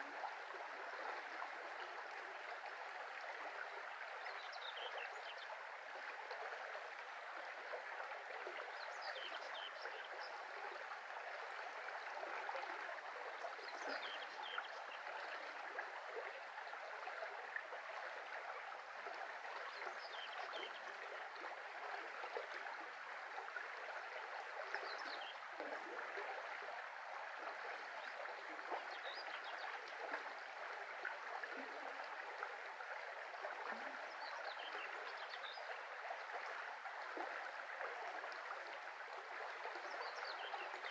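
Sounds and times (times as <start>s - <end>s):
brook flowing over stones: 0.0s - 40.9s.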